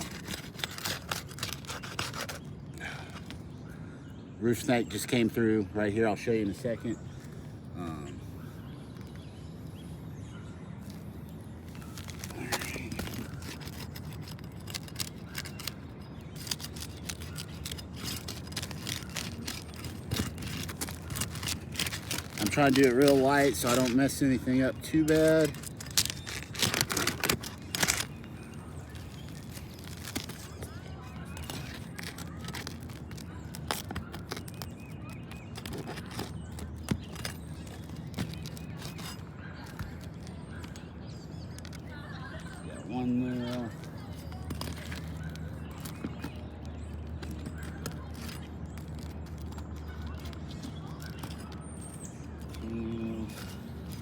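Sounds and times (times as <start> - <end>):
shingles prying and scraping: 0.0 - 3.5, 11.6 - 54.0.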